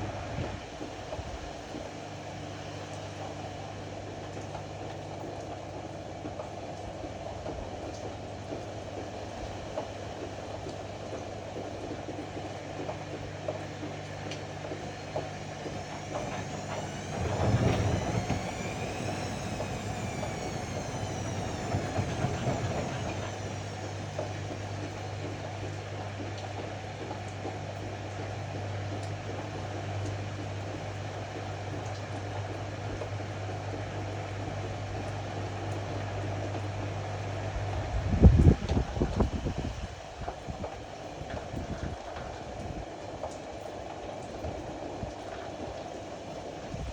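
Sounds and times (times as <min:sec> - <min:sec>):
drum motor whine: 0:00.0 - 0:43.4
washer-dryer humming: 0:00.0 - 0:46.9.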